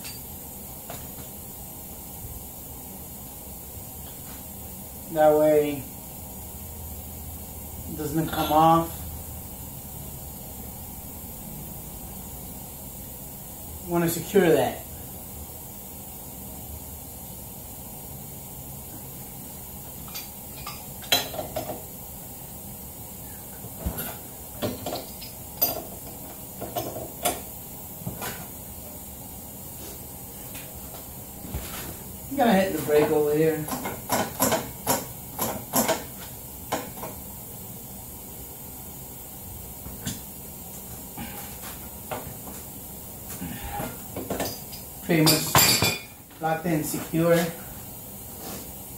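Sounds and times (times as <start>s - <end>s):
faint hiss: 0.0s - 33.8s, 35.8s - 48.9s.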